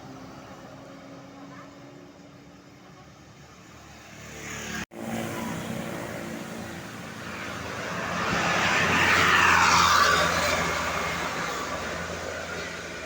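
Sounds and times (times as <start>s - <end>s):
bus driving past: 0.0s - 13.0s.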